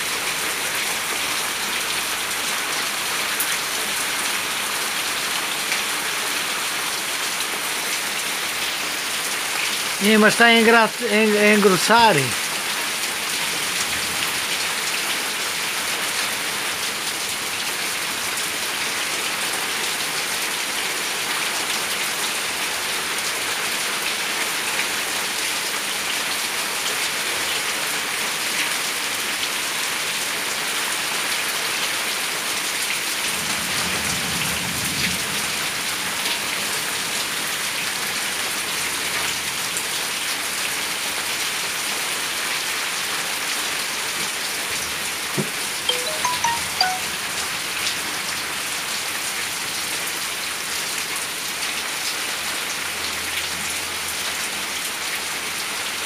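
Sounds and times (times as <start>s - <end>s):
heavy rain on roof: 0.0s - 46.6s, 47.3s - 56.0s.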